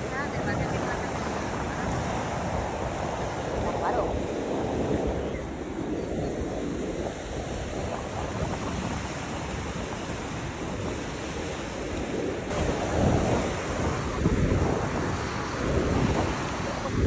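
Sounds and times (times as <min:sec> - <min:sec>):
waves washing onto beach: 0:00.0 - 0:17.0
wind buffeting microphone: 0:00.0 - 0:17.0.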